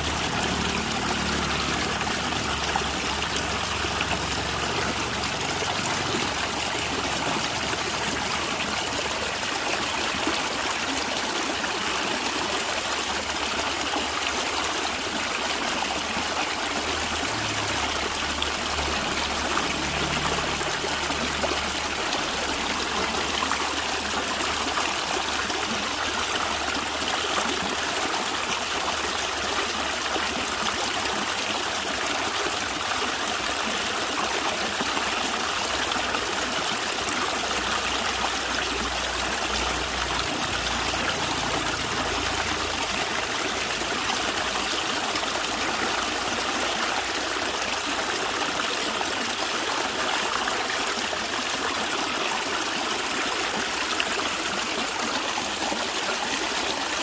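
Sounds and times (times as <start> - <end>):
stream gurgling: 0.0 - 57.0.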